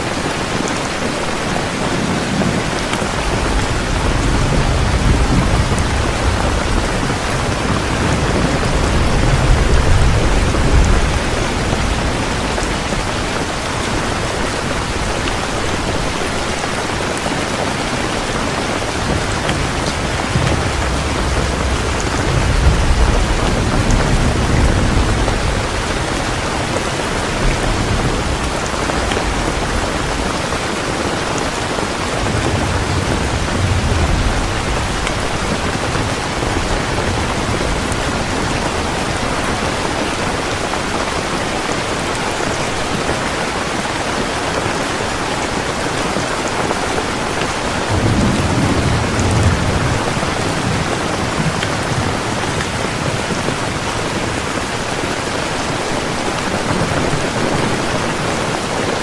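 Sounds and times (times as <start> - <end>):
heavy rain falling: 0.0 - 59.0
low rolls of thunder: 1.2 - 42.6, 46.8 - 55.2.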